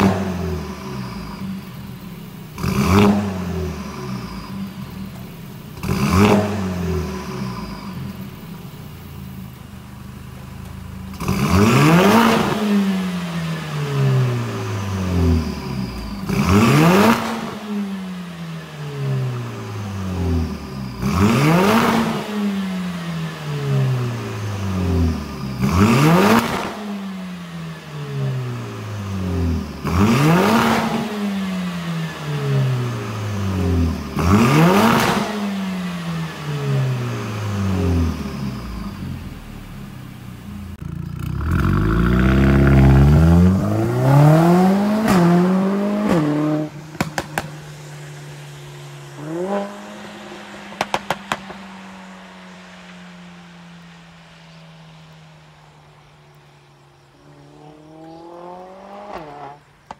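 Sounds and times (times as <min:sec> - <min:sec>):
car engine idling: 0:00.0 - 0:30.1, 0:35.7 - 0:59.9
car engine revving: 0:00.0 - 0:59.9
exhaust crackles: 0:00.0 - 0:59.9.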